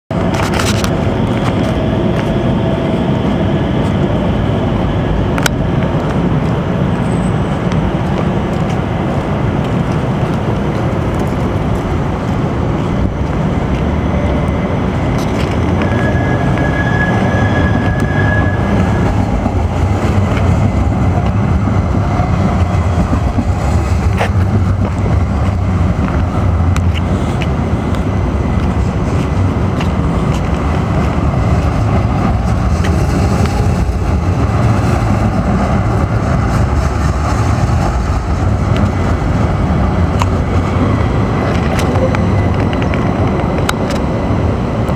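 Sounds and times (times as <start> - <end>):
trains and traffic rumble: 0.1 - 44.9.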